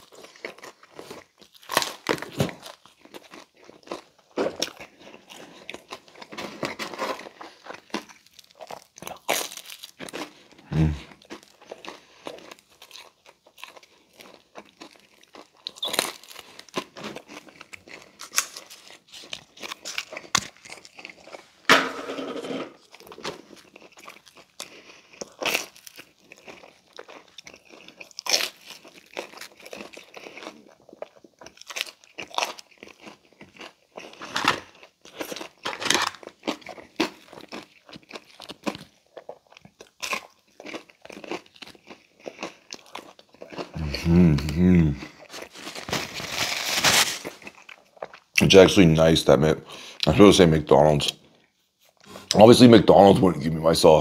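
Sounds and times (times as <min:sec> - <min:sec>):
crunching and chewing: 0:00.0 - 0:48.9.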